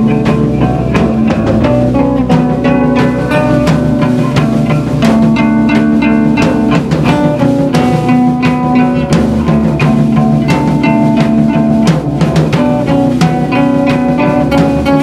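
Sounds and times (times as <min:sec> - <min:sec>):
drum kit beat: 0:00.0 - 0:15.0
electric bass guitar: 0:00.0 - 0:15.0
strummed acoustic guitars: 0:00.0 - 0:15.0.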